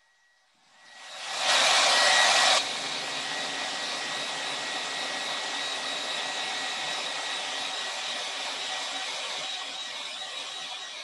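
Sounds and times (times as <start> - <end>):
hair dryer blowing: 0.8 - 11.0.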